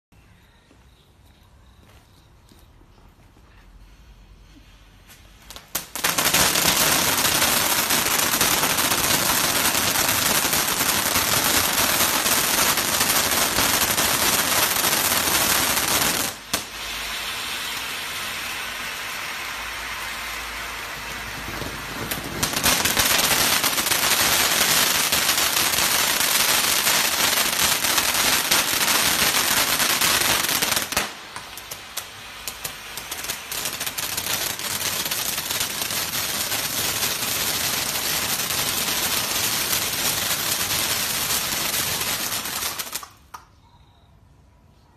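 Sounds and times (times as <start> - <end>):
fireworks fountain hissing and crackling: 0.2 - 43.6.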